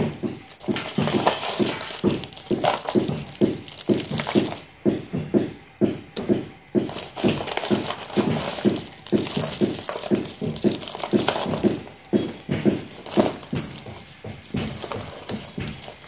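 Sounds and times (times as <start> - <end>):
slate pencils clattering: 0.4 - 4.7, 6.2 - 16.0.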